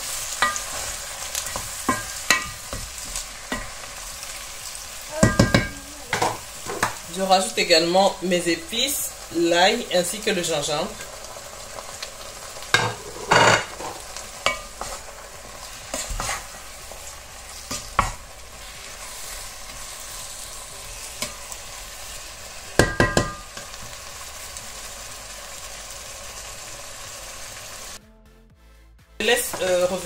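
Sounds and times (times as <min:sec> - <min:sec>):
vegetables sizzling in a pot: 0:00.0 - 0:28.0, 0:29.2 - 0:30.0.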